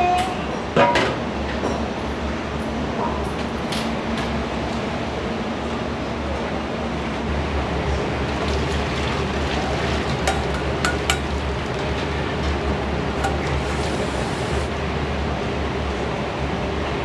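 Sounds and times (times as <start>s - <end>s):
kitchen hum and rush: 0.4s - 17.0s.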